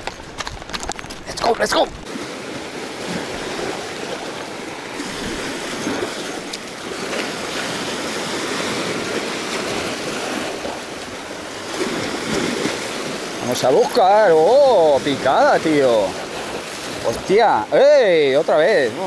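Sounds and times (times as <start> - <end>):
small waves washing around rocks: 0.3 - 19.0.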